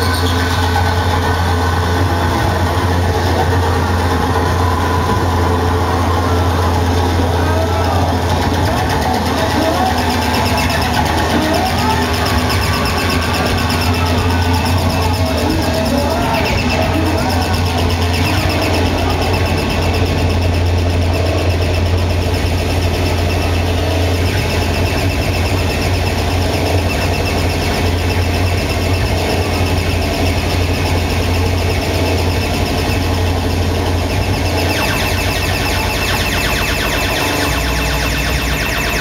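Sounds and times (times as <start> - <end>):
distorted noise music: 0.0 - 39.0
steady low drone: 0.0 - 39.0.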